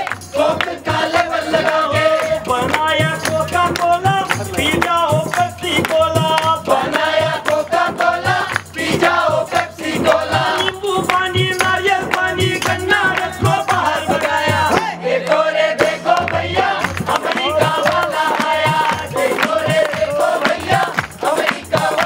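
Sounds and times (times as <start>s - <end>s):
drums: 0.0s - 22.0s
group singing in chorus: 0.0s - 22.0s
hand clapping: 0.0s - 22.0s.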